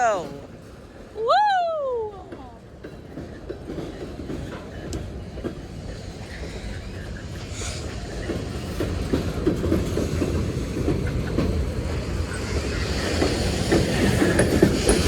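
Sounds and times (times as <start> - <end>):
train low rumble: 0.0 - 15.0
wheels clacking over rail joints: 2.2 - 15.0.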